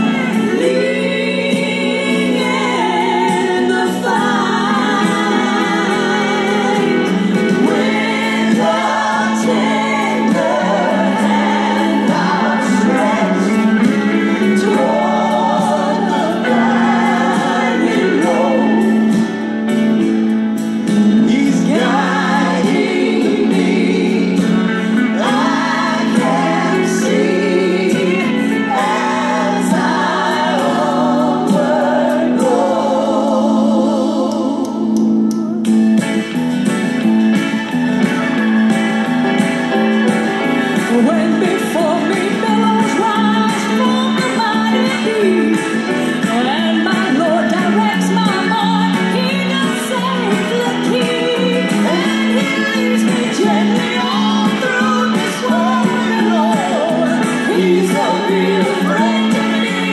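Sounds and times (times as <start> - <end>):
vocal trio singing in harmony: 0.0 - 20.0, 20.8 - 35.6, 40.6 - 59.9
bass guitar: 0.0 - 59.9
drums: 0.0 - 59.9
keyboard: 0.0 - 59.9.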